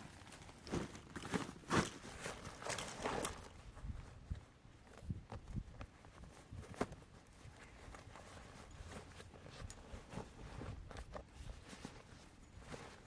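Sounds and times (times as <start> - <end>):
fabric rustling: 0.0 - 13.0.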